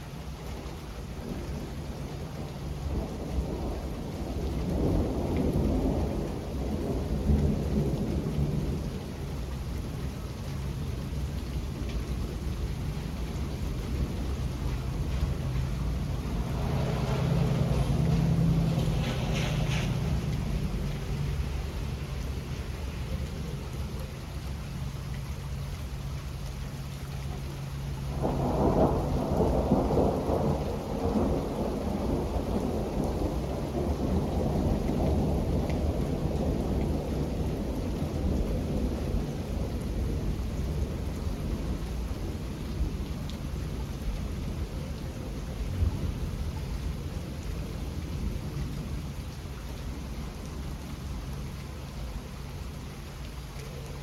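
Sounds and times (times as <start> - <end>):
steady rain: 0.0 - 54.0
thunder rumbling: 1.0 - 54.0.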